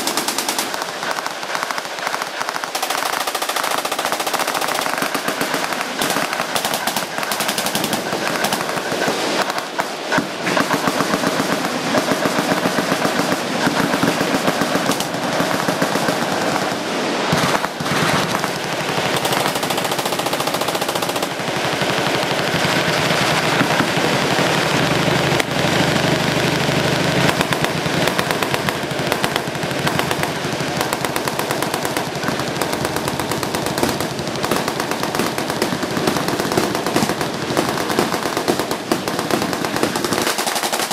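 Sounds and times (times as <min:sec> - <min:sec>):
machine guns firing: 0:00.0 - 0:40.9.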